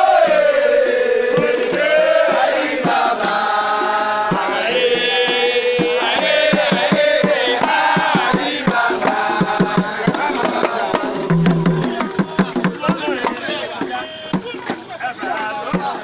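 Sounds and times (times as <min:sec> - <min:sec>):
voices chanting a song: 0:00.0 - 0:16.0
hand drum strokes: 0:01.2 - 0:16.0.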